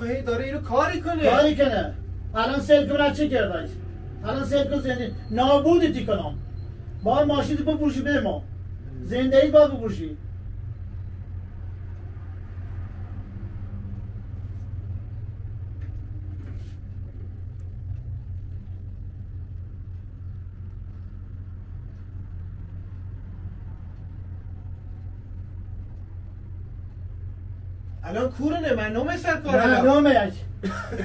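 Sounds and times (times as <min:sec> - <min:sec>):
low rumbling hum: 0:00.0 - 0:31.0.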